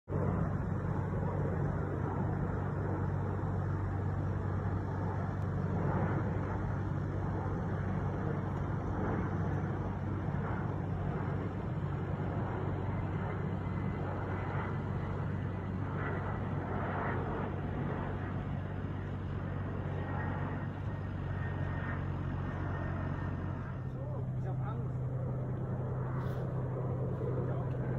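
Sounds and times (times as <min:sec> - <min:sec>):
airplane engine noise: 0:00.1 - 0:27.9.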